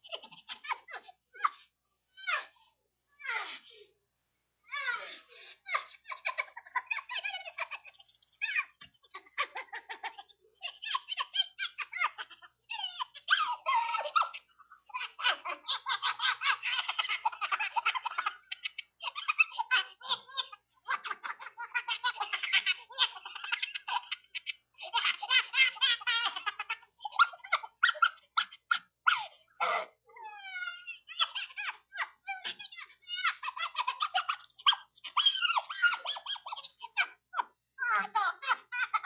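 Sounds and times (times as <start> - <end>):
high-pitched giggling and laughter: 0.0 - 4.0, 4.6 - 39.0.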